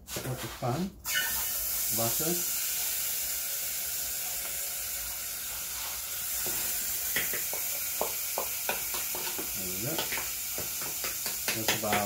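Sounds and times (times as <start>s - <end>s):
butter sizzling in saucepan: 1.0s - 12.0s.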